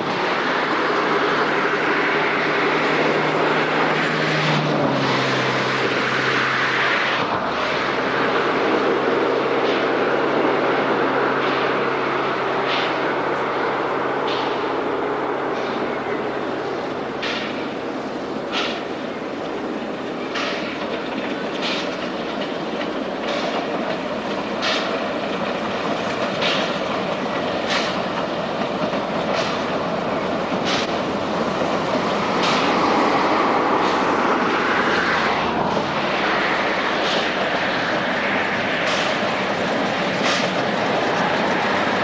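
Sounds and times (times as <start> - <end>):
steam locomotive working hard: 0.0 - 42.0.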